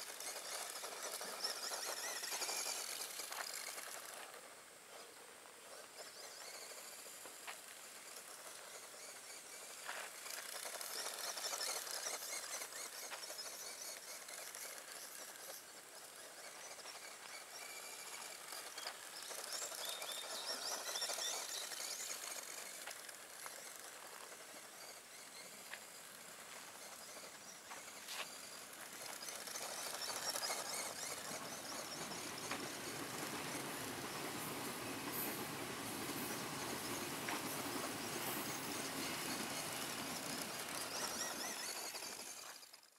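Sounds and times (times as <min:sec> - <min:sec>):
tyres on gravel: 0:00.0 - 0:05.1, 0:05.7 - 0:42.9
electric motor whine: 0:08.2 - 0:42.8.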